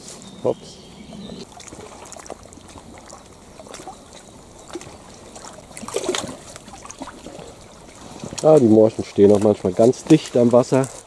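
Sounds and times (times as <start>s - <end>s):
faint water trickling: 0.0s - 11.0s.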